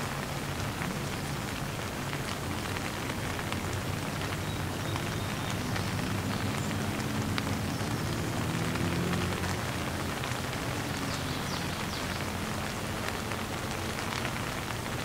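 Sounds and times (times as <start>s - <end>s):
heavy rain hiss: 0.0s - 15.0s
rain drop ticks: 0.0s - 15.0s.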